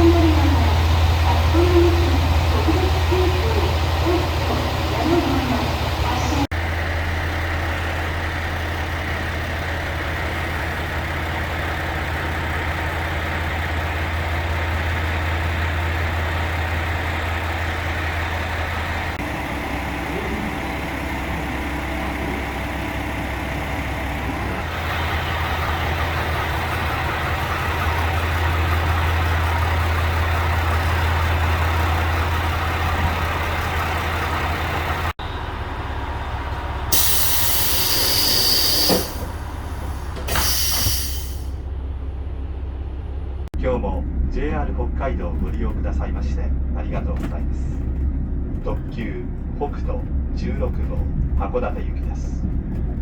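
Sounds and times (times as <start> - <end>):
railcar diesel engine droning: 0.0 - 53.0.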